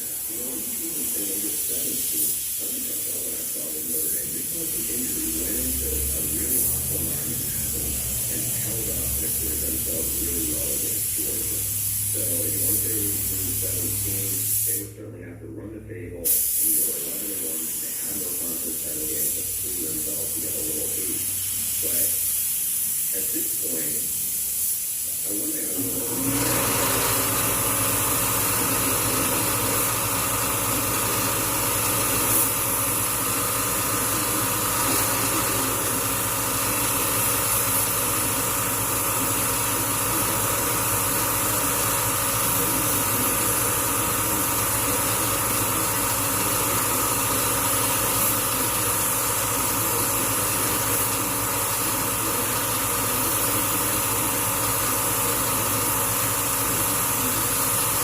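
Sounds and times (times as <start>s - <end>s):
machine running with high hiss: 0.0s - 15.2s, 16.1s - 58.0s.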